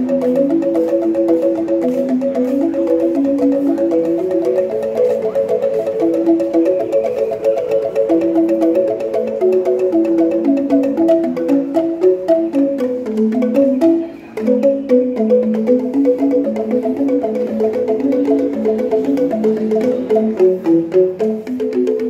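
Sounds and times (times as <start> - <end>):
angklung melody: 0.0 - 22.0.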